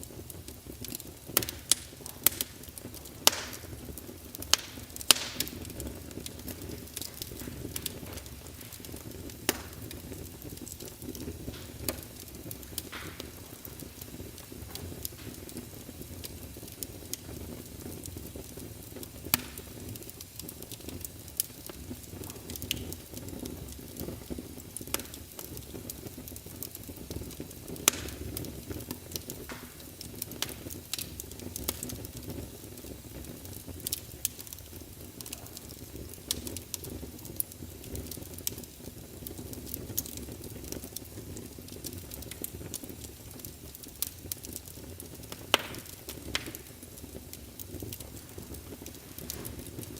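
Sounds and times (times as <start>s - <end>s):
low rumble of flames: 0.0s - 49.9s
wood crackles and pops: 0.0s - 49.9s.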